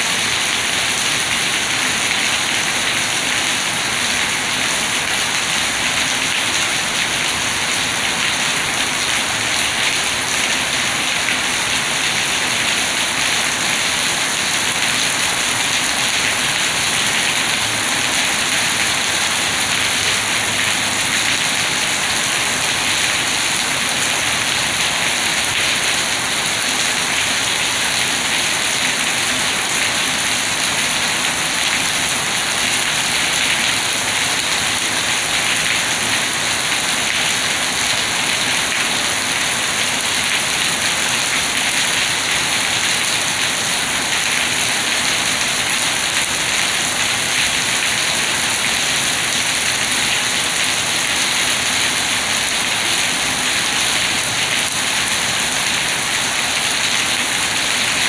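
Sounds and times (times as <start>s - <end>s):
rain on stone paving: 0.0s - 58.0s.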